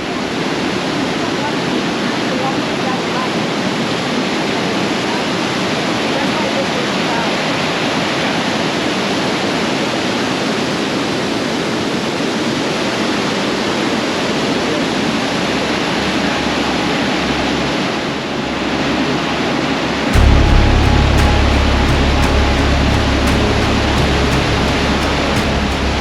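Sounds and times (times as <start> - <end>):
waterfall rushing: 0.1 - 26.0.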